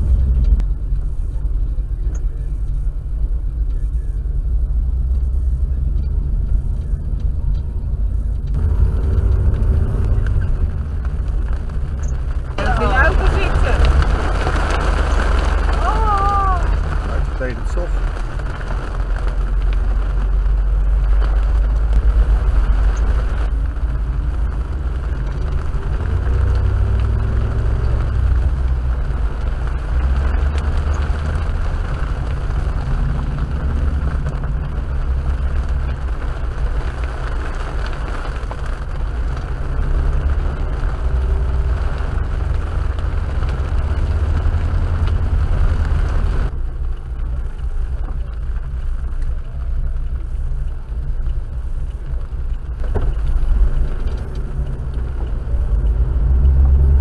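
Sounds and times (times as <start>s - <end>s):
car engine drone: 0.0s - 57.0s
tyres on wet road: 0.0s - 57.0s.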